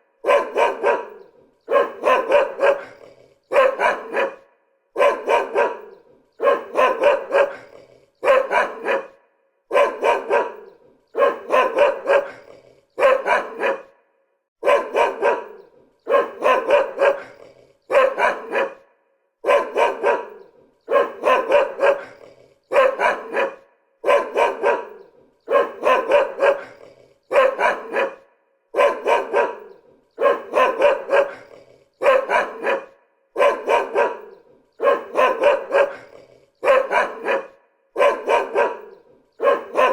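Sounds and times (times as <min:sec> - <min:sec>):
dog barking: 0:00.0 - 0:39.9.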